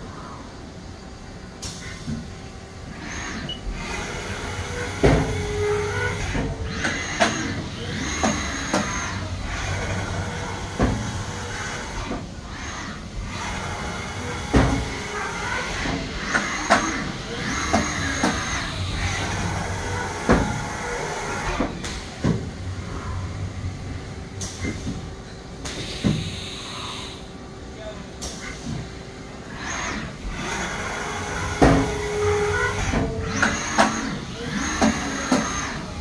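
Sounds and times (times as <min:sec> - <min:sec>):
machine hum: 0:00.0 - 0:36.0
high machine whines: 0:02.4 - 0:27.5, 0:28.9 - 0:36.0.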